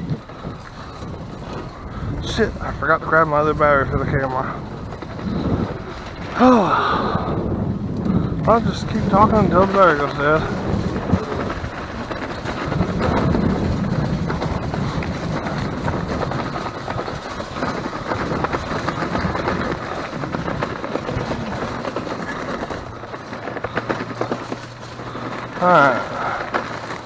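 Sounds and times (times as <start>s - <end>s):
bicycle rattling over pavement: 0.0s - 27.0s.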